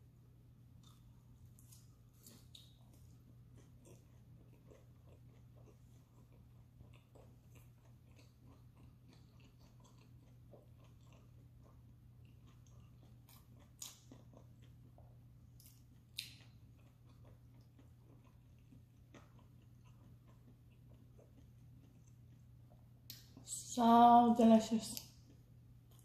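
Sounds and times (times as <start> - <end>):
faint low hum: 0.0 - 26.0
chewing and soft crunching: 0.7 - 23.8, 24.5 - 26.0.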